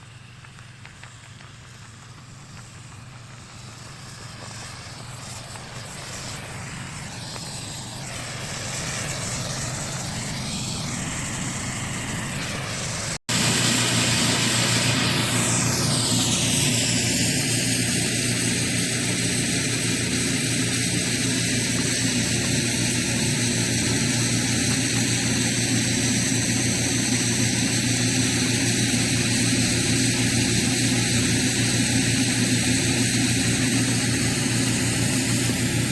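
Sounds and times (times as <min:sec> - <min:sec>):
snow-making machine fan whirring: 0:00.0 - 0:35.9.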